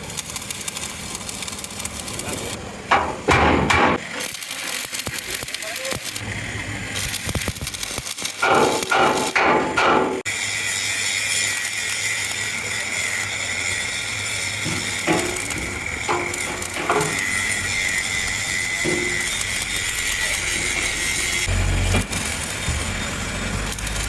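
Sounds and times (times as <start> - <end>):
workshop machinery whining: 0.0 - 24.0.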